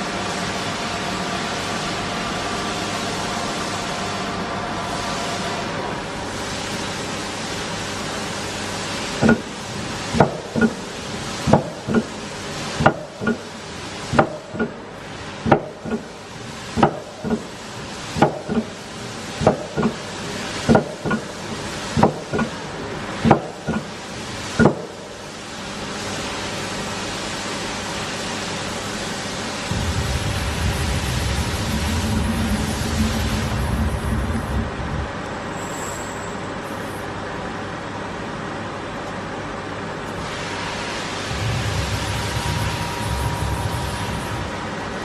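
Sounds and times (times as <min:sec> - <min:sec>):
machine running with steady hiss: 0:00.0 - 0:45.0.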